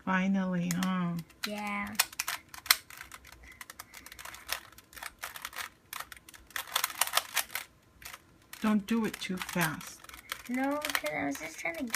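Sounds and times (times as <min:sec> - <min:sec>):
puzzle cube clicking: 0:00.7 - 0:11.9.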